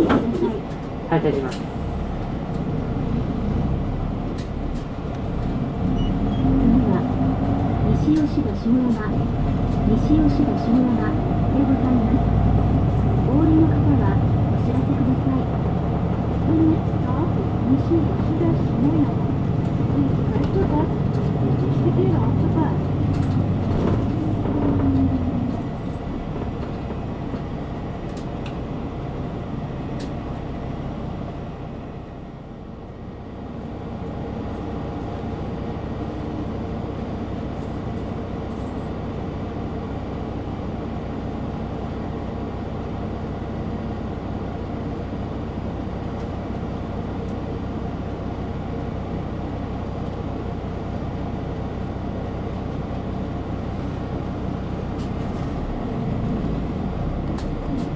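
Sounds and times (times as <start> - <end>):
bus diesel engine: 0.0 - 57.9
road noise: 0.0 - 57.9.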